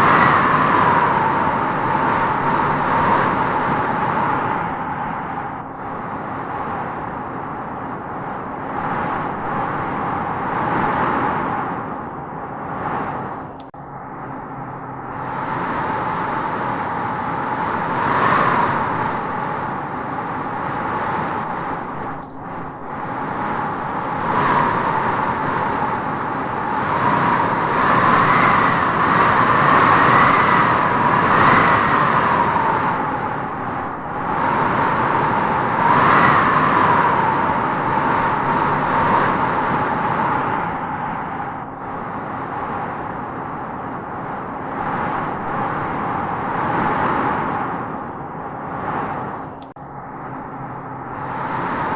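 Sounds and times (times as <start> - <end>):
wind howling in gusts: 0.0 - 51.9.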